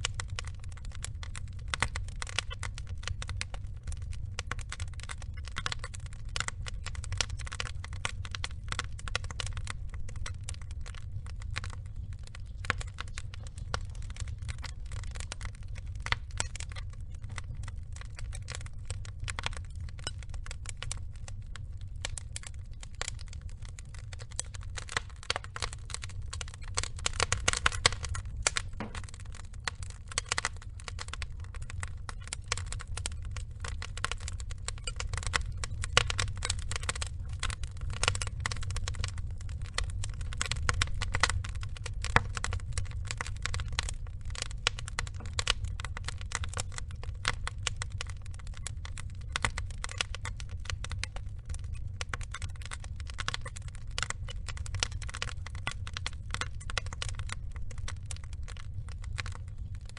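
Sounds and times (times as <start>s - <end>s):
log fire crackling and popping: 0.0s - 59.9s
low rumble of flames: 0.0s - 59.9s.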